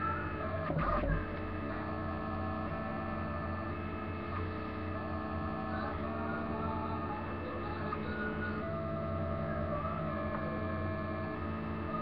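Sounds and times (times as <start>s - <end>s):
printer stepper motors whining: 0.0s - 12.0s.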